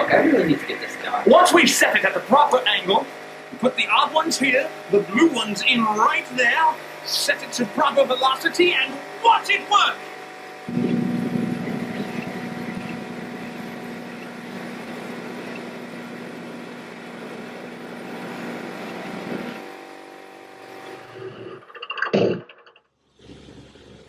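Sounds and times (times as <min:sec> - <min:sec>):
small engine running: 0:00.0 - 0:22.3.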